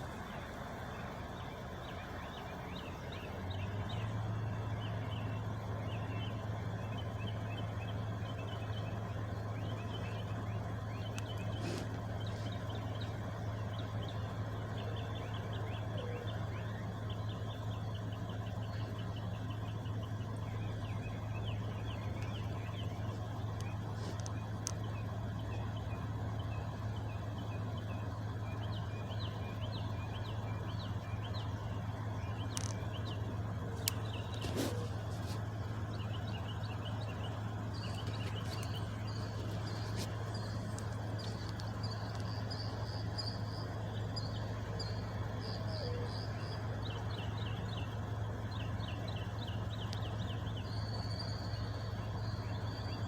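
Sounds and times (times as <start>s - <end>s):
small birds chirping: 0.0s - 53.0s
truck engine idling: 0.0s - 53.0s.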